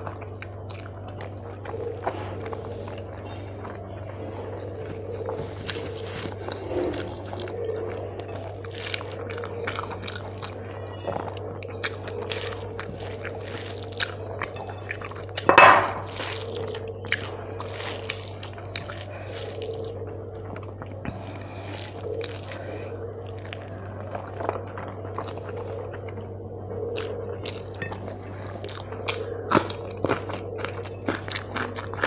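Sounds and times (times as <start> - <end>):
food squelching mixed by hand: 0.0 - 26.2
chewing and mouth clicks: 0.0 - 32.0
low hum: 0.0 - 32.0.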